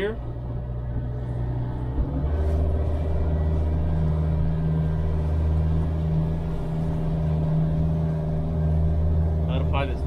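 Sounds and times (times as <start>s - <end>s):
outboard motor droning: 0.0s - 10.0s.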